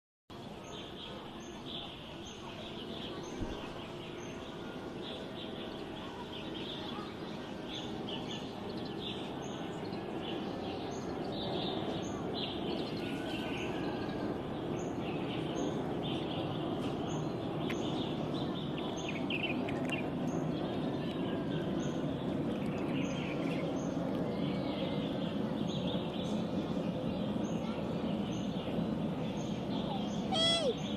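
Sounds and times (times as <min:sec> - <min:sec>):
outdoor background noise: 0:00.3 - 0:30.9
small birds chirping: 0:00.4 - 0:30.9.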